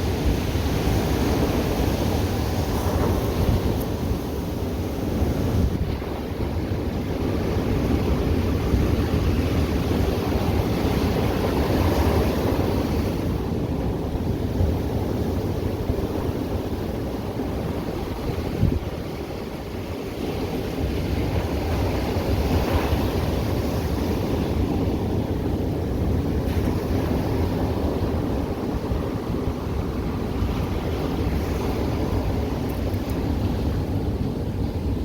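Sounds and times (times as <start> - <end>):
ocean surf washing onto beach: 0.0 - 35.0
wind buffeting microphone: 0.0 - 35.0.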